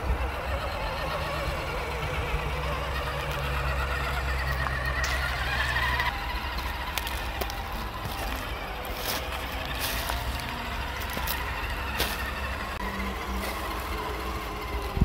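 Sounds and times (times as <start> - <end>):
toy truck motors whining: 0.0 - 15.0.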